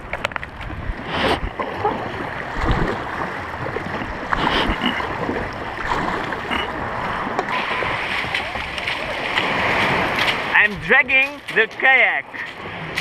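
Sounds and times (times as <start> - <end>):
kayak paddles splashing: 0.0 - 13.0
water rushing: 0.0 - 13.0.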